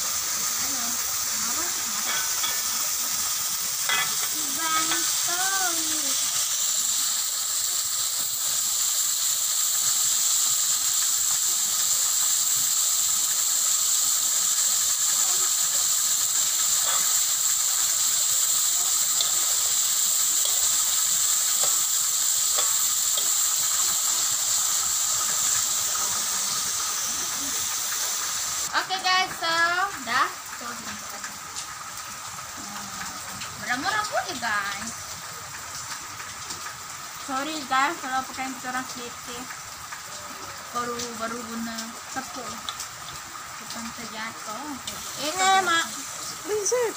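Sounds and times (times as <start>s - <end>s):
squid deep-frying in oil: 0.0s - 46.9s.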